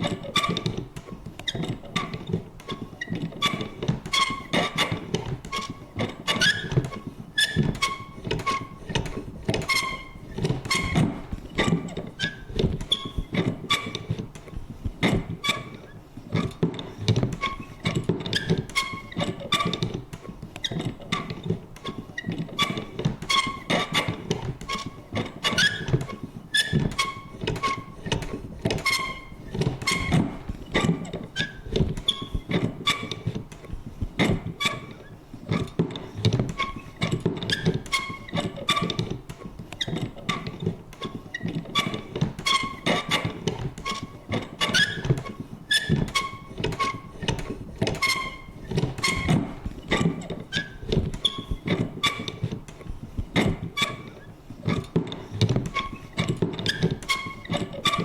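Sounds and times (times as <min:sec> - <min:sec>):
paper punch clunking and creaking: 0:00.0 - 0:58.0.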